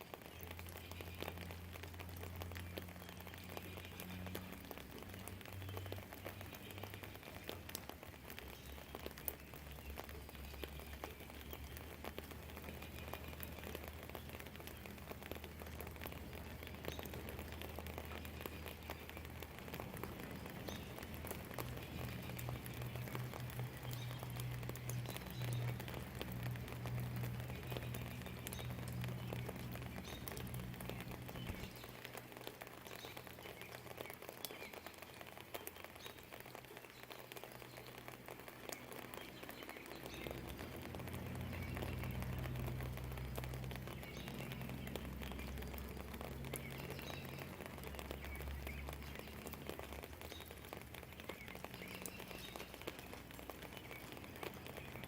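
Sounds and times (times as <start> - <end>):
rain pattering and dripping: 0.0 - 55.0.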